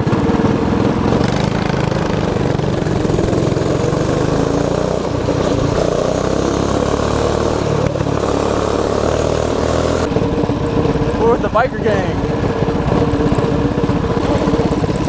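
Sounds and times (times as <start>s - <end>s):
mini bike engine running: 0.0s - 15.0s.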